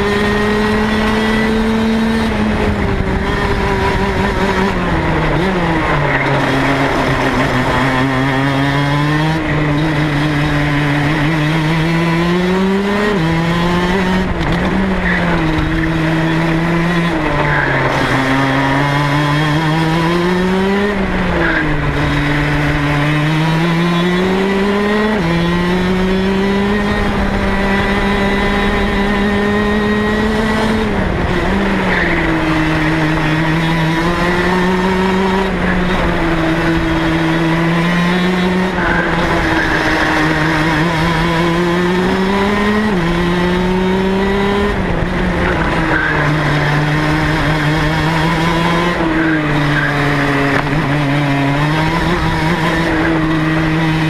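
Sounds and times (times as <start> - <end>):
kart two-stroke engine racing: 0.0 - 54.0.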